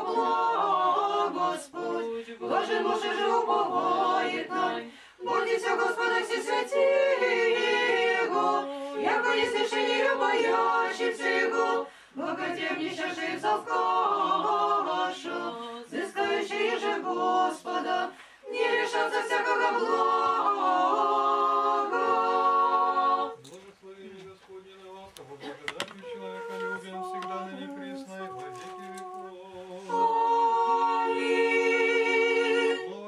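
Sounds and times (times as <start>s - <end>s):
church choir singing a cappella: 0.0s - 24.6s, 26.0s - 33.0s.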